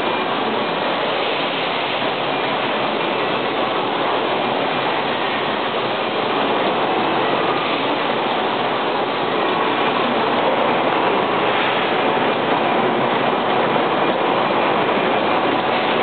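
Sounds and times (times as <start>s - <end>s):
factory machinery hiss: 0.0s - 16.0s.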